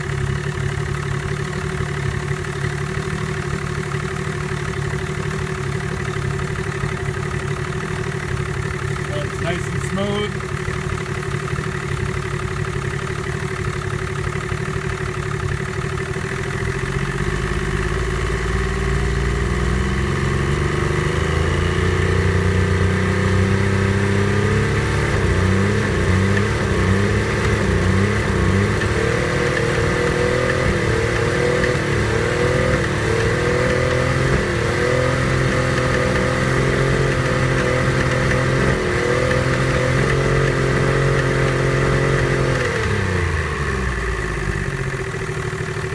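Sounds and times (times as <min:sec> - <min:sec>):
outboard motor running: 0:00.0 - 0:45.9.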